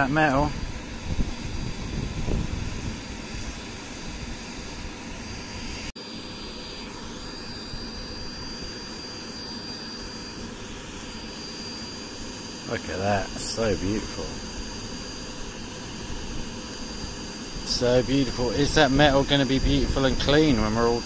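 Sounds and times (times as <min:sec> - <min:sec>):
fan blowing air: 0:00.0 - 0:21.0
furnace fire roaring: 0:00.0 - 0:21.0
thin high whine: 0:00.0 - 0:21.0.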